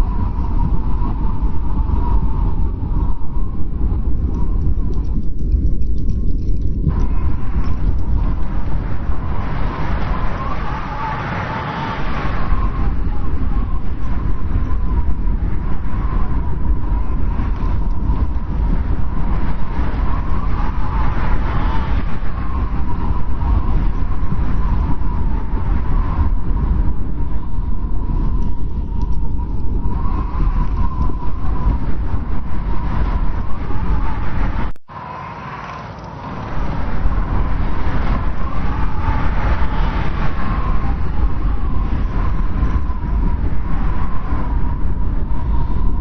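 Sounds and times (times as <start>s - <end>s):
strong wind rumbling: 0.0s - 46.0s
thin wind whistle: 0.0s - 46.0s.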